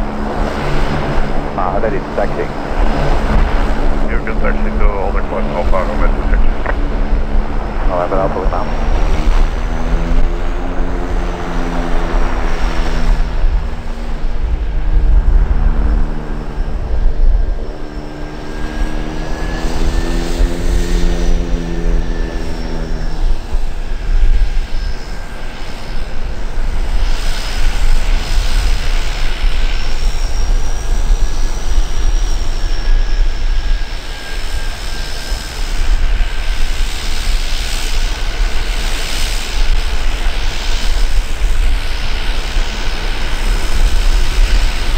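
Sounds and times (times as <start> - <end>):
lower humming tone: 0.0 - 44.9
propeller drone: 0.0 - 44.9
turbine whine: 0.0 - 44.9.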